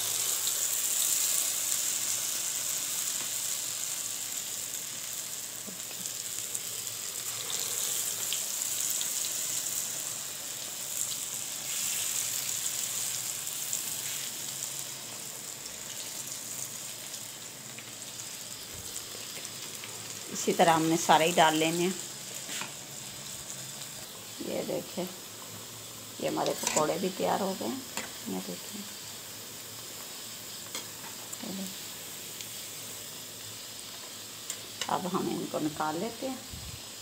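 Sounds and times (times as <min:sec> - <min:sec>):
deep-frying sizzle with crackles: 0:00.0 - 0:37.0.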